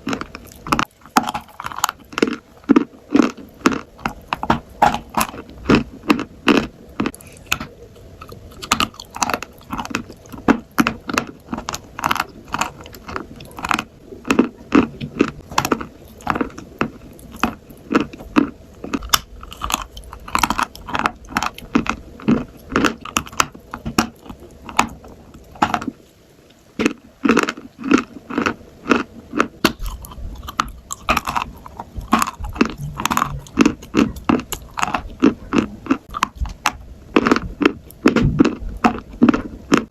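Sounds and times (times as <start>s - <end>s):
crunchy food being chewed: 0.0s - 39.9s.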